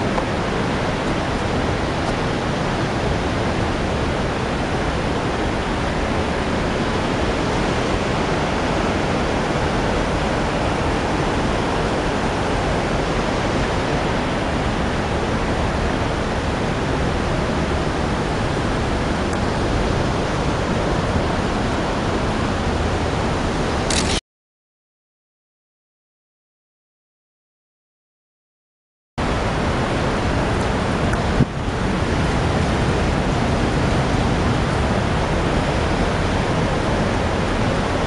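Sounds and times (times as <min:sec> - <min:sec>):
waterfall rushing: 0:00.0 - 0:24.1, 0:29.2 - 0:38.0.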